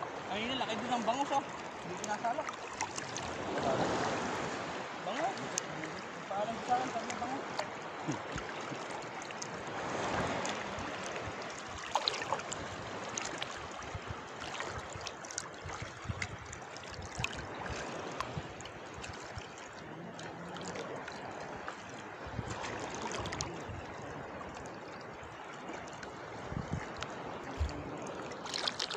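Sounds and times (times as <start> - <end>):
seawater sloshing around wader: 0.0 - 28.9
small water splashes: 0.0 - 28.9.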